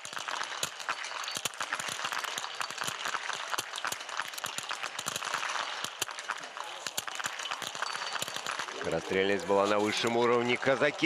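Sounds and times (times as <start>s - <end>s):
rifle shots crackling: 0.0s - 10.1s.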